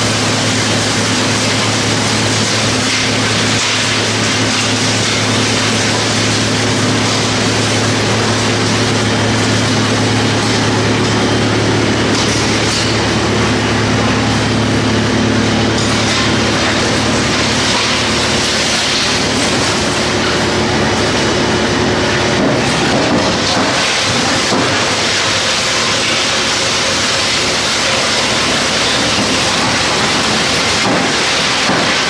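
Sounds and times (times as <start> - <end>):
wood chipper running: 0.0 - 32.0.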